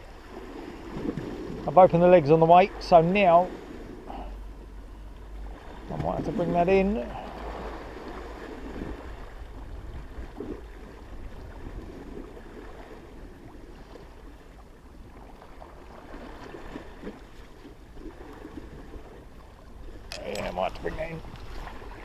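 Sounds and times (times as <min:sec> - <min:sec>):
sea waves against sea wall: 0:00.0 - 0:22.0
wind rumbling on microphone: 0:00.0 - 0:22.0.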